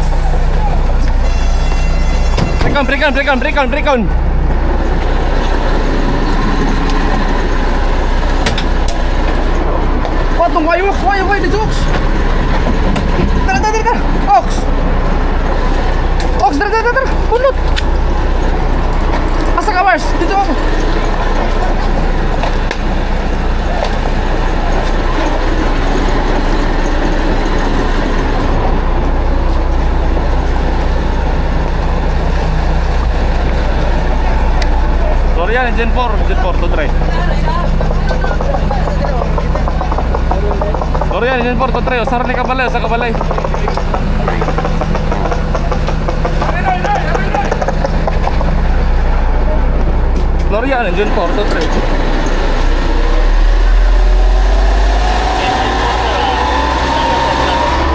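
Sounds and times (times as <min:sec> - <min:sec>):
large engine rumbling: 0:00.0 - 0:57.9.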